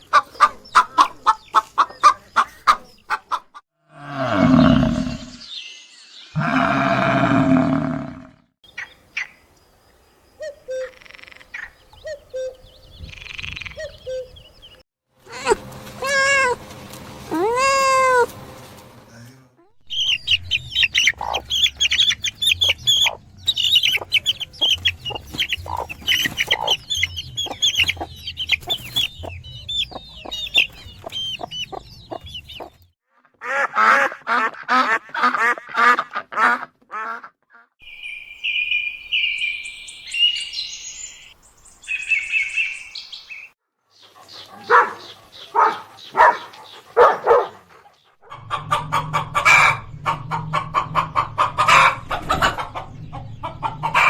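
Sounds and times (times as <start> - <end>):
birds chirping: 0.0 - 3.6, 4.2 - 14.8, 19.8 - 32.9, 37.8 - 54.0.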